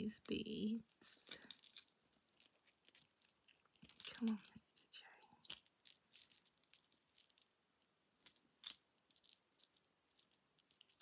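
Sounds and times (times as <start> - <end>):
beads clicking and rattling: 0.0 - 11.0
jewellery clinks: 0.2 - 7.6, 8.2 - 11.0.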